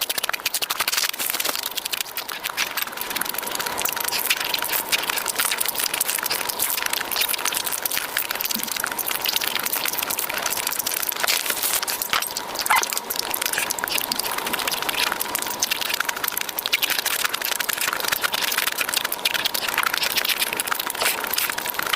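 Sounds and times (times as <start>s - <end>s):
food being chewed and crunched: 0.0s - 21.9s.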